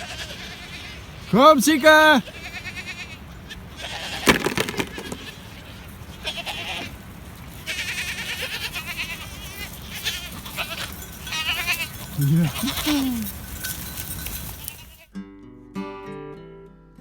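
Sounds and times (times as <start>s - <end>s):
goats bleating: 0.0s - 7.0s, 7.6s - 15.1s.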